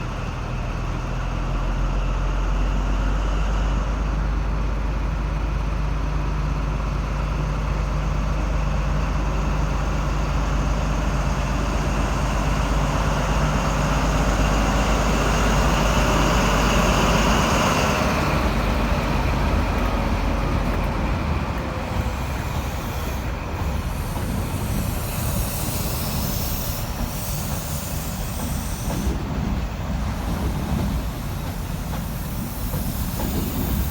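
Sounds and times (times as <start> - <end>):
diesel train engine: 0.0 - 33.9
wheels rushing on rail: 0.0 - 33.9.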